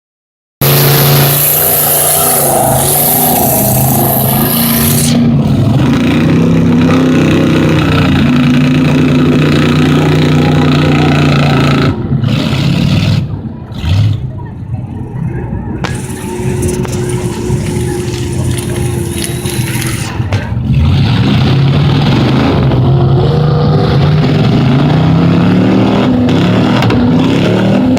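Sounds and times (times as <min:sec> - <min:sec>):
truck engine revving loudly: 0:00.6 - 0:27.9.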